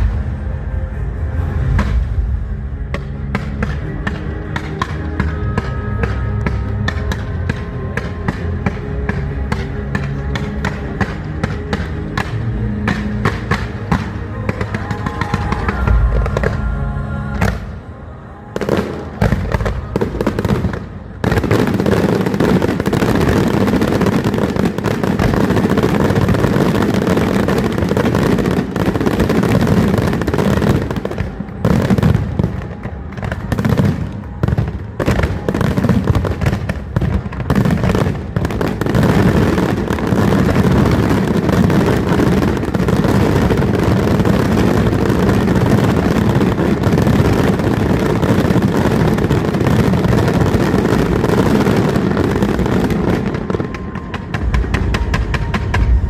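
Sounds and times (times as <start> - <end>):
fireworks bangs and crackle: 0.0 - 56.0.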